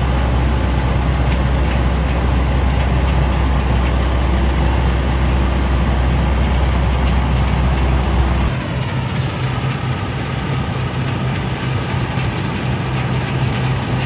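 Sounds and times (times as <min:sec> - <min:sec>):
combine harvester engine drone: 0:00.0 - 0:14.0
machinery clatter and rush: 0:00.0 - 0:14.0.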